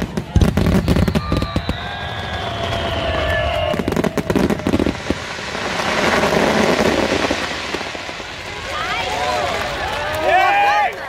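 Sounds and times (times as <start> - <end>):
firework whistle: 0.0 - 10.0
firework crackling: 0.0 - 11.0.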